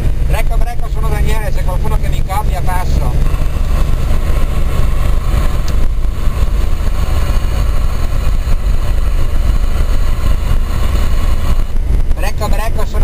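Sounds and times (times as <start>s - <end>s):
diesel engine and road rumble: 0.0s - 13.0s
wind noise: 0.0s - 13.0s.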